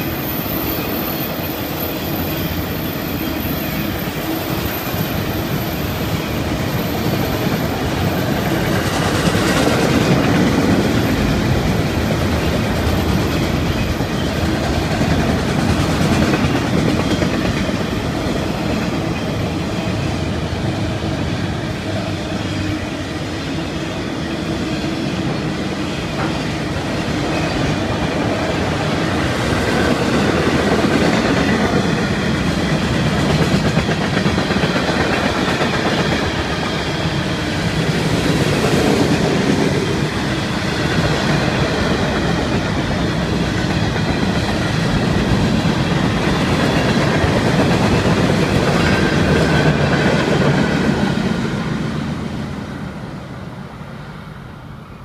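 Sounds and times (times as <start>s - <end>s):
freight train wheels rumbling and clattering: 0.0s - 53.2s.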